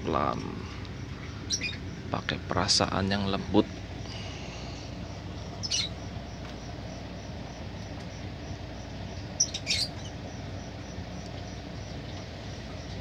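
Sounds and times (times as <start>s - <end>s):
steady low hum: 0.0s - 13.0s
lovebirds squeaking: 0.2s - 13.0s.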